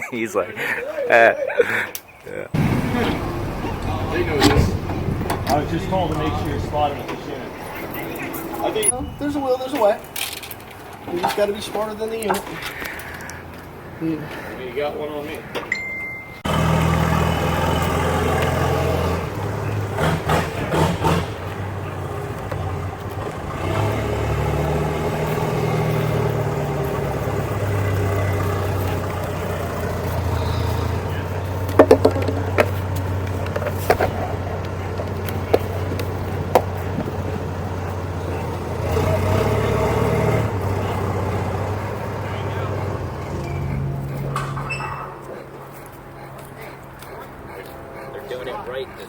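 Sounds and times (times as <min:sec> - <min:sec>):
vehicle engine running: 0:02.6 - 0:10.0, 0:16.4 - 0:48.8.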